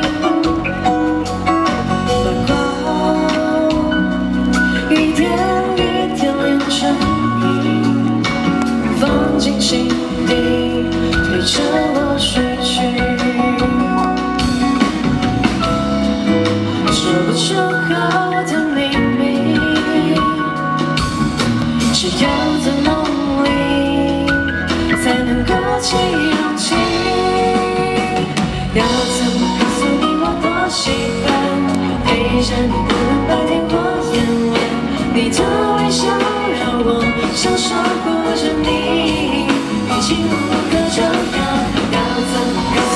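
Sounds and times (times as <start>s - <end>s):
drum kit: 0.0s - 42.9s
female lead vocal: 0.0s - 42.9s
guitar: 0.0s - 42.9s.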